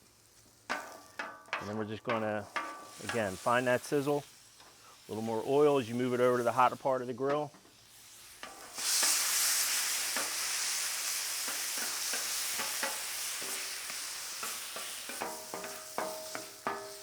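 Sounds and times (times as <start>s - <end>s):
meat sizzling on a griddle: 0.0s - 17.0s
spatula scraping a griddle: 0.4s - 6.8s, 7.6s - 17.0s.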